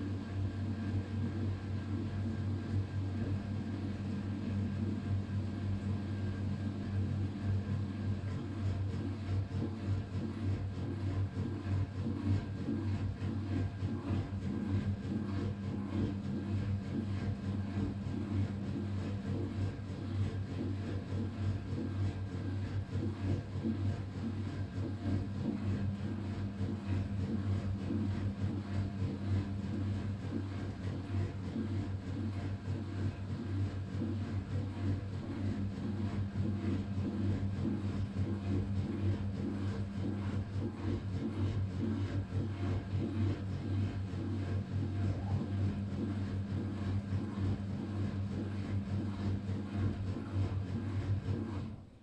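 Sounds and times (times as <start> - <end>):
washing machine motor humming: 0.0 - 52.0
wet laundry sloshing in drum: 5.5 - 52.0.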